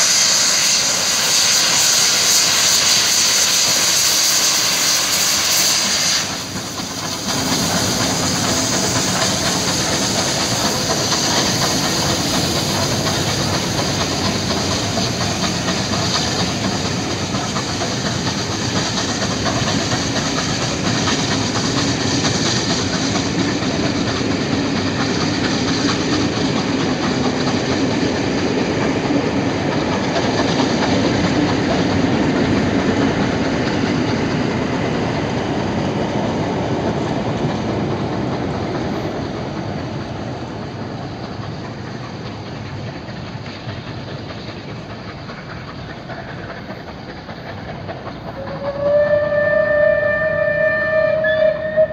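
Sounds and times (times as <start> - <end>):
hissing steam: 0.0 - 51.9
wheels clicking over rail joints: 6.3 - 51.9.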